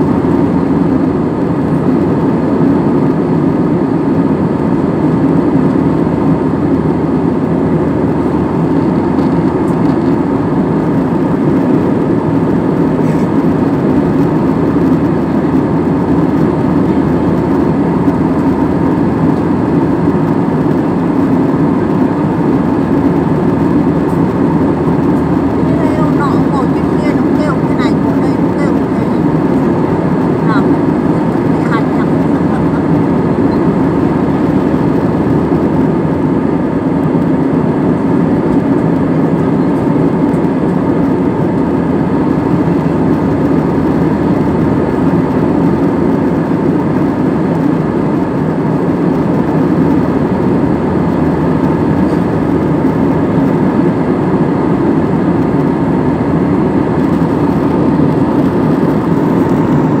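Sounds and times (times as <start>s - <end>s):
jet airliner cabin drone: 0.0s - 60.0s.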